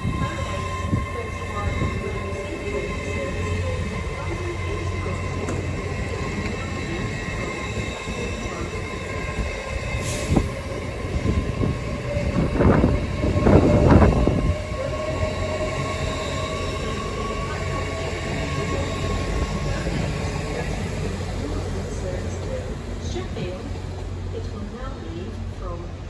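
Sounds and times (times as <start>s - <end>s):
electric train whine: 0.0s - 26.0s.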